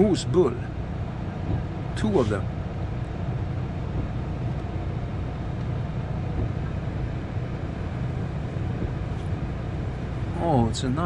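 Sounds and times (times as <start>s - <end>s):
car engine rumble from cabin: 0.0s - 11.0s.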